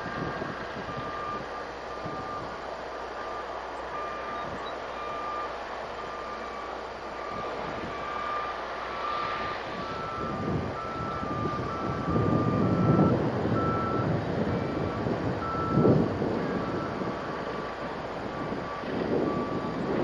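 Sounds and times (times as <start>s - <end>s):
reversing alarm beeping: 0.1s - 20.0s.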